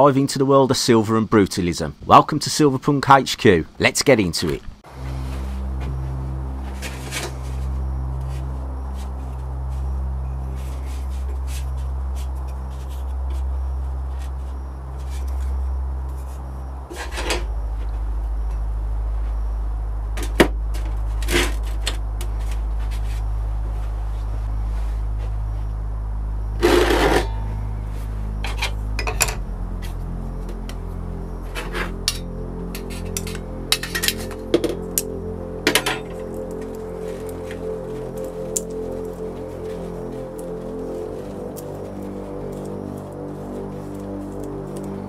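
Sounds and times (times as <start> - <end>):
steady low hum: 4.7 - 45.0.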